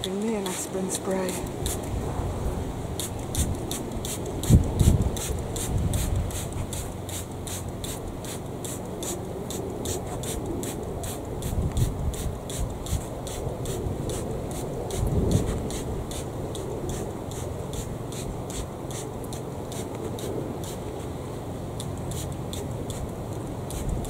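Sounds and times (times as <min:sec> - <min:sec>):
high rasping tick: 0:00.0 - 0:02.0, 0:03.0 - 0:21.0, 0:21.8 - 0:24.0.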